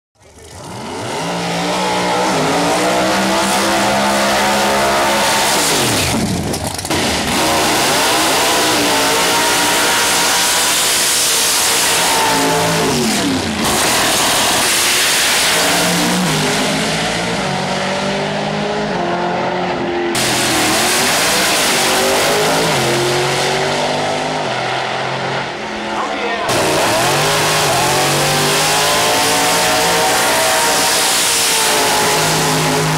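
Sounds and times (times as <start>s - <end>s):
car burnout: 0.2s - 32.9s
drag car engines at full throttle: 0.2s - 32.9s.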